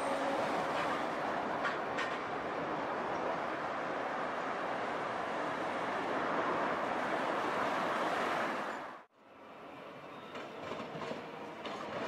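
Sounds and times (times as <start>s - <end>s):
quiet street hum: 0.0s - 12.0s
road traffic hiss: 0.0s - 12.0s.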